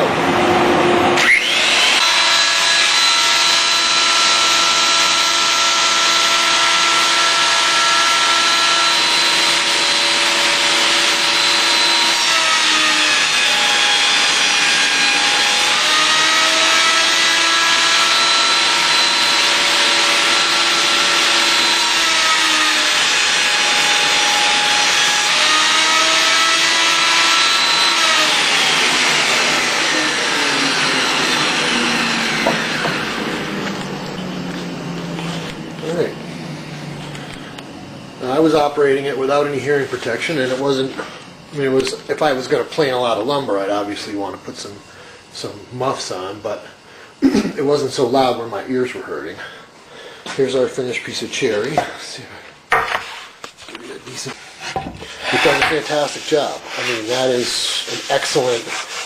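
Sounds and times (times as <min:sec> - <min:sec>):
wood planer running: 0:00.0 - 0:46.7, 0:52.7 - 0:59.0.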